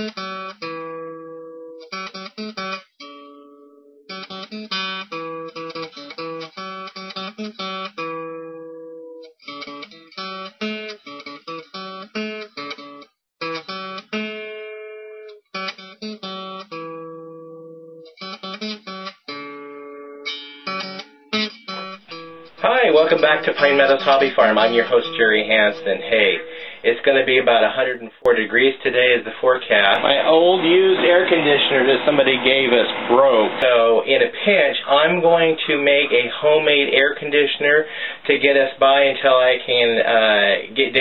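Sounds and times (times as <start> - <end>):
acoustic guitar strumming chords: 0.0 - 28.1, 29.7 - 37.1.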